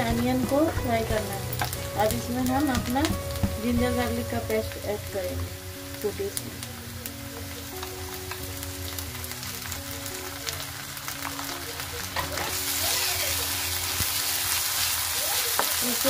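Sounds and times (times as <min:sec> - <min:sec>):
onions sizzling in hot oil: 0:00.0 - 0:16.0
soft background music: 0:00.0 - 0:16.0.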